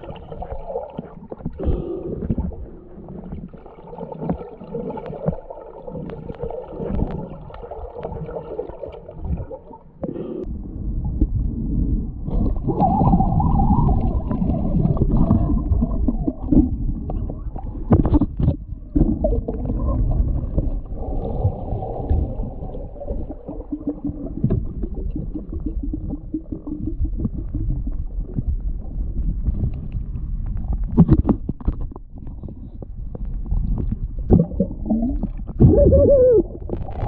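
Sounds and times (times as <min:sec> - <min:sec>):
underwater rumbling and gurgling: 0:00.0 - 0:37.0.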